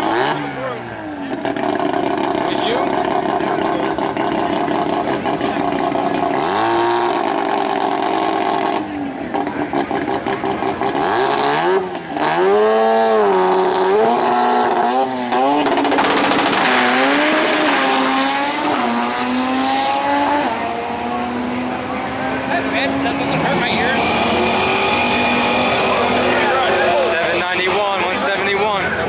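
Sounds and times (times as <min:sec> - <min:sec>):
engine revving: 0:00.0 - 0:28.9.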